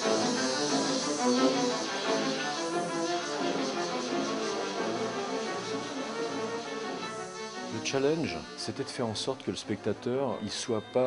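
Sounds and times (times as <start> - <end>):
violin playing held notes: 0.0 - 11.0.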